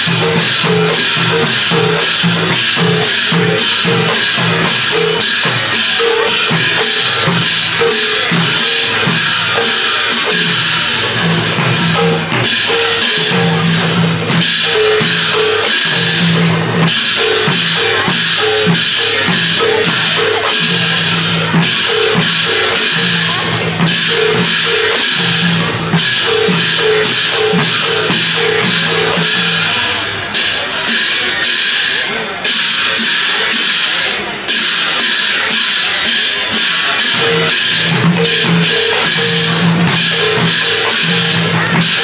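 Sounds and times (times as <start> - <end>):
brass hand cymbals clashing: 0.0 - 42.0
drums beaten in fast rhythm: 0.0 - 42.0.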